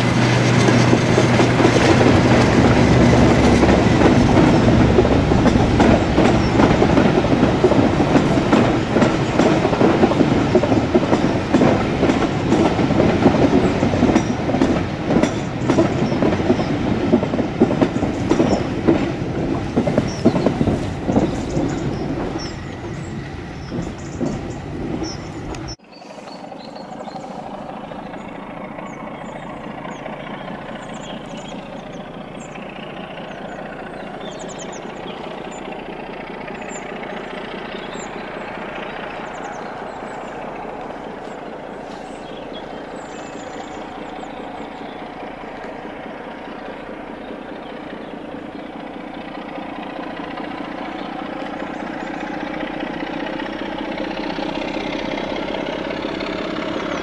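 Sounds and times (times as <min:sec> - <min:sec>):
distant diesel locomotive engine: 0:00.0 - 0:57.0
passing train rumble: 0:00.0 - 0:57.0.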